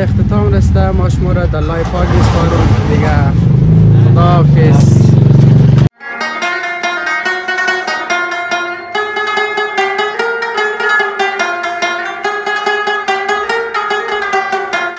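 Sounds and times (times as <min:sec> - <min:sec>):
plucked string music with beat: 0:02.6 - 0:14.9.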